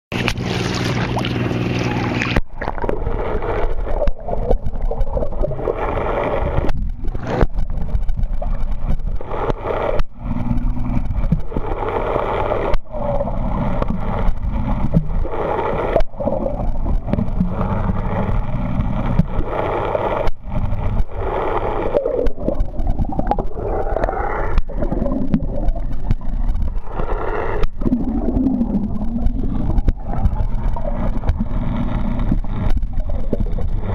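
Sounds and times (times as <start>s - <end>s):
boat engine hum: 0.1s - 33.9s
underwater churn and gurgle: 0.1s - 33.9s.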